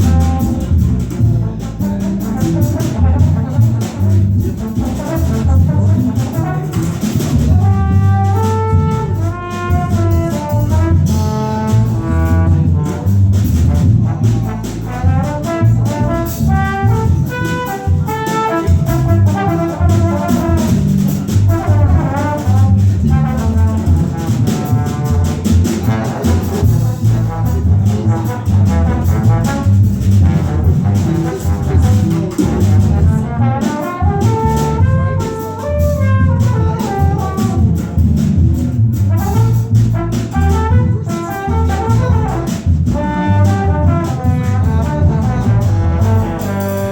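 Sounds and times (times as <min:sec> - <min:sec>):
horn melody: 0:00.0 - 0:46.9
jazz combo playing: 0:00.0 - 0:46.9.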